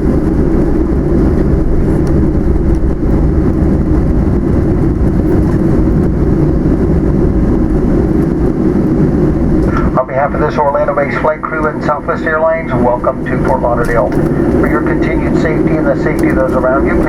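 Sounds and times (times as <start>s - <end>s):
jet cabin low rumble: 0.0s - 17.0s.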